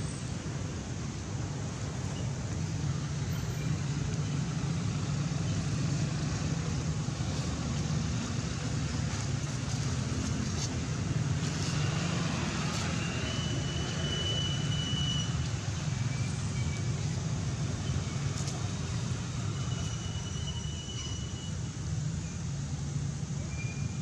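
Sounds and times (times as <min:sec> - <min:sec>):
low rumble of motor traffic: 0:00.0 - 0:24.0.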